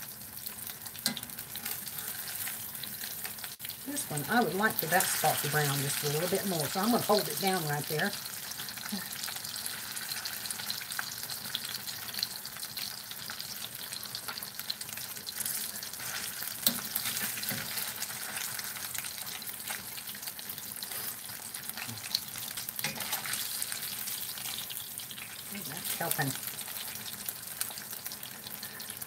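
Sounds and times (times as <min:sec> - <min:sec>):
steak sizzling in a skillet: 0:00.0 - 0:29.0.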